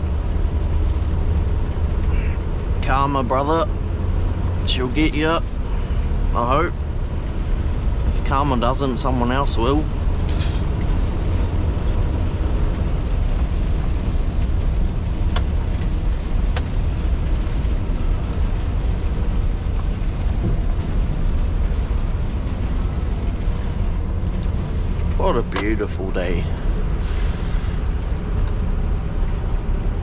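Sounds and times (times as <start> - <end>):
diesel truck engine droning: 0.0 - 30.0
road noise: 0.0 - 30.0.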